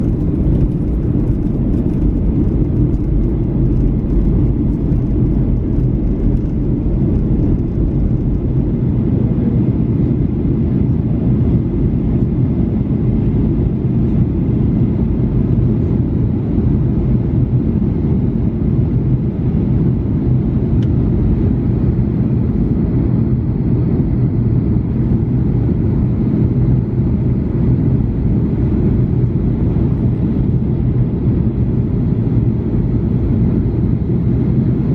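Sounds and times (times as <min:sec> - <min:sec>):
airliner rumble: 0:00.0 - 0:34.9.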